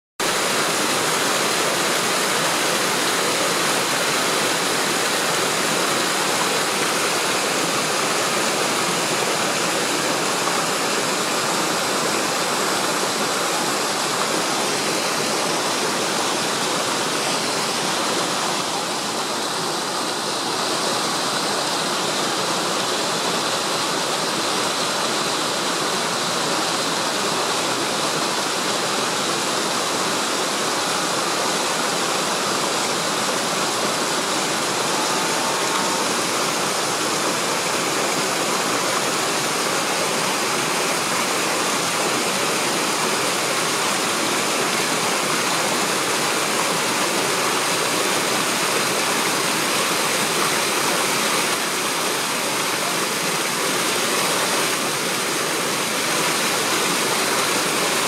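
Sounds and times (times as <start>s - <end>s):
stream rushing over boulders: 0.2s - 58.0s.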